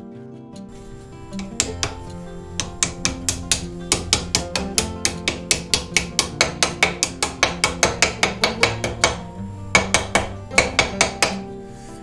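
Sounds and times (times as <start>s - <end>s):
hammer striking steel: 0.7s - 11.5s.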